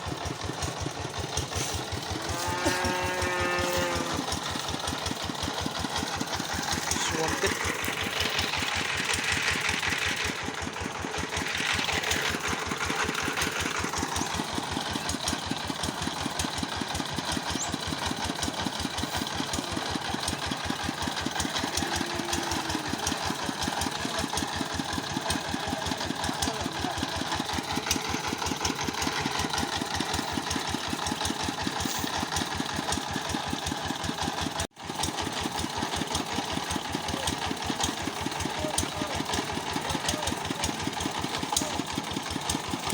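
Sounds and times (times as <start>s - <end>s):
sawmill engine running: 0.0s - 42.9s.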